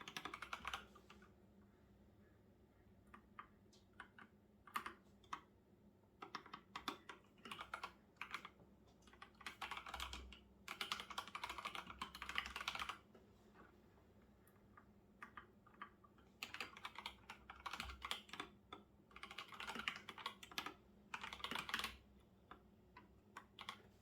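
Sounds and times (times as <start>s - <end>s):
typing on keyboard: 0.0s - 1.2s, 3.1s - 5.5s, 6.2s - 13.0s, 15.2s - 23.9s.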